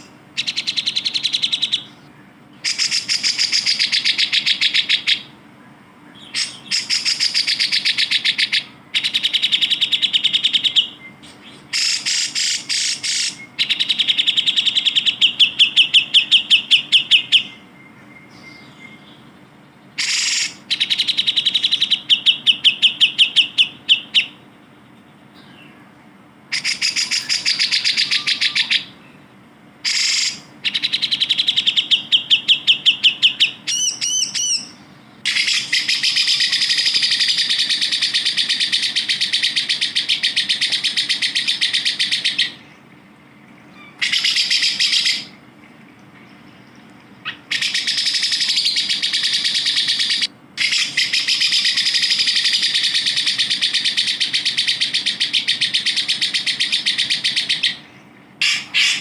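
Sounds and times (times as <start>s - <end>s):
bird fast repeated chirping: 0.0s - 2.0s, 2.6s - 5.3s, 6.2s - 19.2s, 19.8s - 24.4s, 26.5s - 29.0s, 29.8s - 42.6s, 43.9s - 45.3s, 47.2s - 57.8s, 58.4s - 59.0s
bird long chattering phrase: 0.0s - 5.4s, 6.2s - 17.7s, 19.9s - 24.5s, 26.5s - 29.0s, 29.8s - 42.7s, 43.8s - 45.4s, 47.2s - 57.8s, 58.4s - 59.0s.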